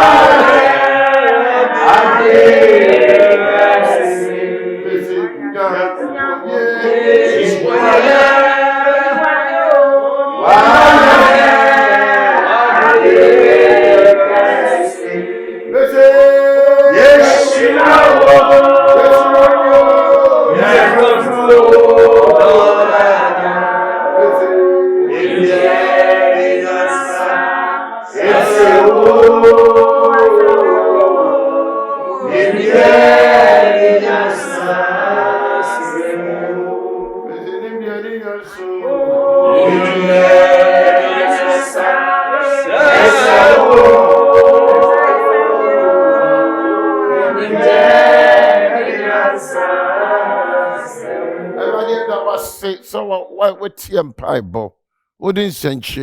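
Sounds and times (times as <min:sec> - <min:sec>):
voices singing a worship song: 0:00.0 - 0:56.0.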